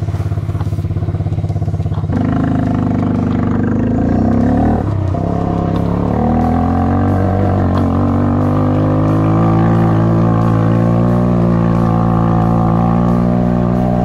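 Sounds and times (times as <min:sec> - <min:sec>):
small engine revving: 0:00.0 - 0:14.0.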